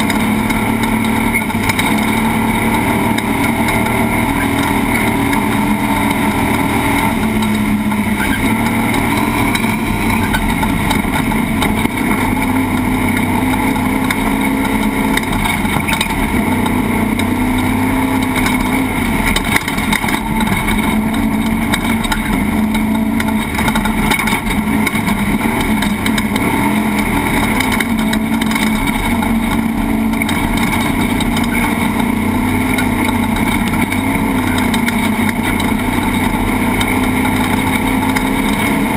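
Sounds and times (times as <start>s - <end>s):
noisy rumble: 0.0s - 38.9s
truck engine running hard: 0.0s - 38.9s.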